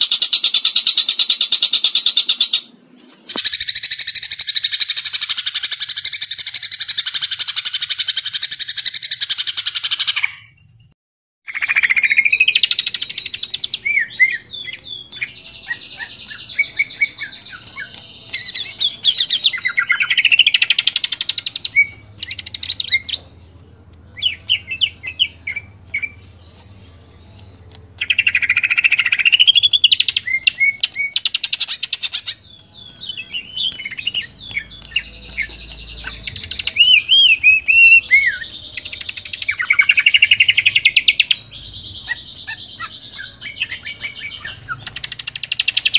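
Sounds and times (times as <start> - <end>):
bird singing trills and whistles: 0.0 - 2.7, 3.3 - 23.4, 24.1 - 45.9.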